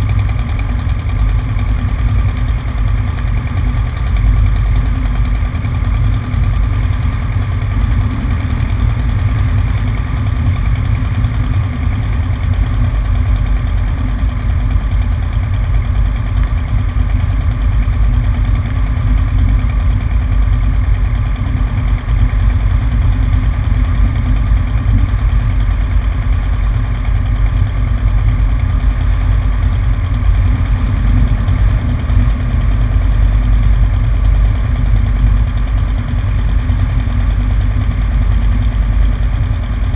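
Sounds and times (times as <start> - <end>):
airplane engine and propeller: 0.0 - 39.9.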